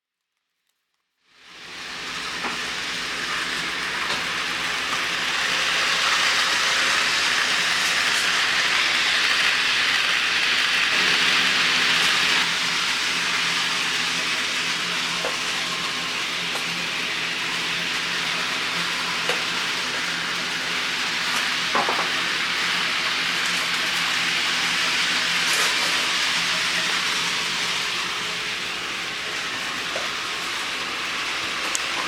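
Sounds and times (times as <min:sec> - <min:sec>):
model train wheels on rail: 0:01.4 - 0:32.0
faint motor hum: 0:01.5 - 0:32.0.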